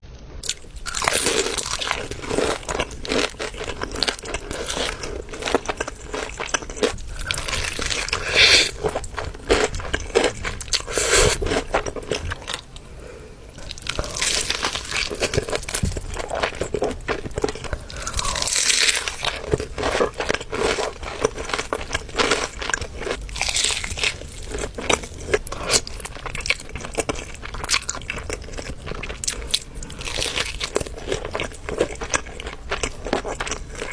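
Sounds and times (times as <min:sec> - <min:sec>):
crunchy food being chewed: 0:00.4 - 0:12.9, 0:13.5 - 0:33.9.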